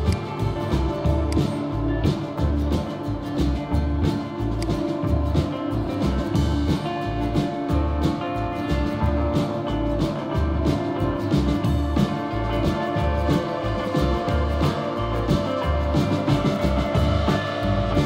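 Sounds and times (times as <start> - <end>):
bass line: 0.0 - 18.0
drum beat: 0.0 - 18.0
instrumental background music: 0.0 - 18.0.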